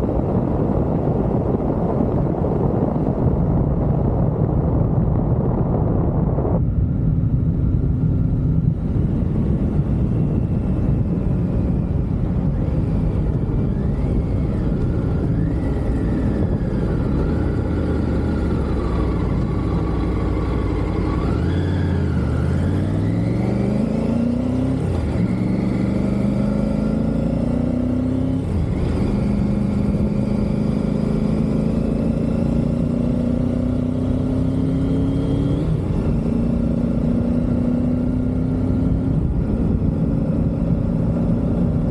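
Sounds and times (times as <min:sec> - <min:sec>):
motorcycle engine revving: 0:06.5 - 0:41.9.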